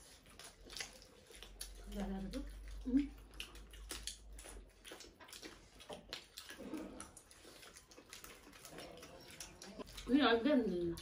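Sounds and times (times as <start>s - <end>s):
people chewing and lip-smacking: 0.0s - 11.0s.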